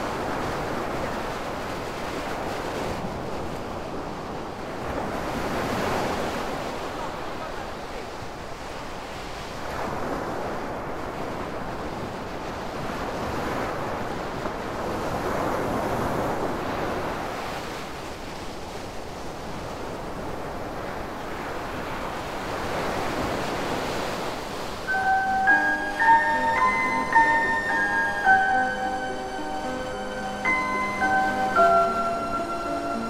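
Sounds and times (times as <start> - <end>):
waves breaking on shore: 0.0 - 33.0.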